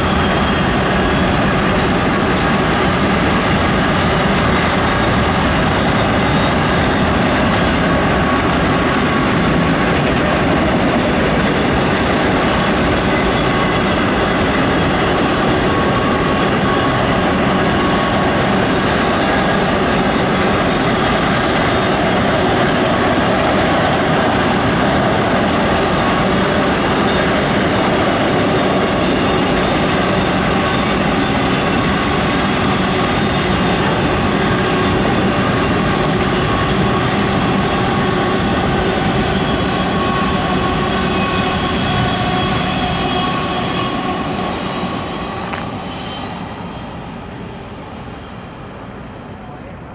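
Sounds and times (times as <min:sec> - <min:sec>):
high wheel squeal: 0:00.0 - 0:10.3, 0:11.1 - 0:22.7, 0:25.8 - 0:48.7
steel wheels on rail: 0:00.0 - 0:49.9.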